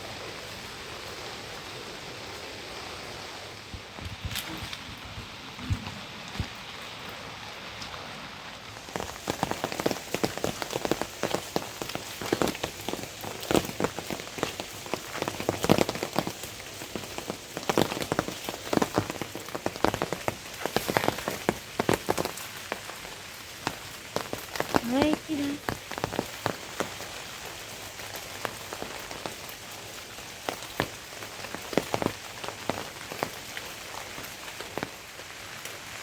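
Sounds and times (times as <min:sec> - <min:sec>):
rain falling: 0:00.0 - 0:36.0
raindrops striking a surface: 0:00.0 - 0:36.0.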